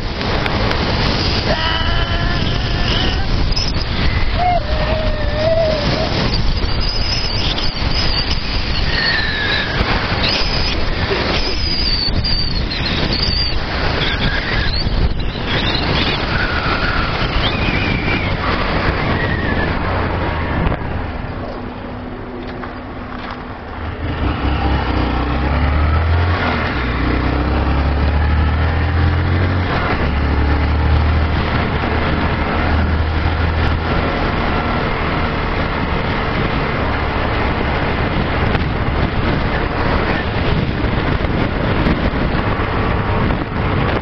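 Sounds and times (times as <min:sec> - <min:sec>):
wind rush over microphone: 0:00.0 - 0:44.0.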